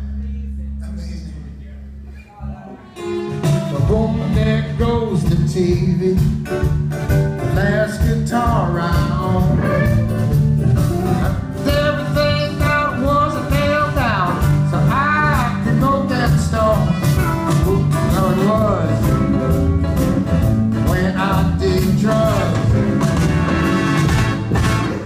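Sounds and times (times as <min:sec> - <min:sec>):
country song with singer and band: 0:00.0 - 0:25.0.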